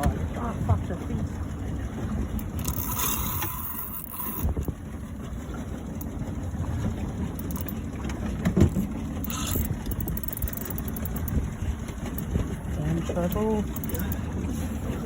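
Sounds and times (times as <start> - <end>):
small boat engine rumbling: 0.0 - 15.0.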